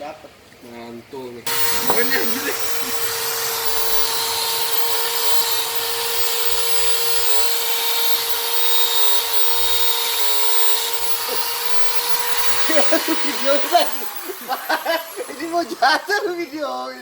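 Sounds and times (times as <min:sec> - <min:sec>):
strong hiss: 0:01.5 - 0:16.6
small machine motor whining: 0:01.5 - 0:16.9.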